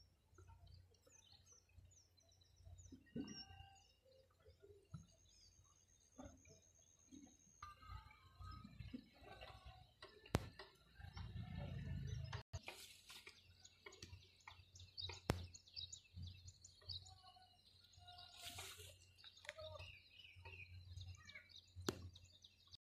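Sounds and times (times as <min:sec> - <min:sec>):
bird chirps and calls: 0:00.4 - 0:10.1, 0:11.0 - 0:22.8.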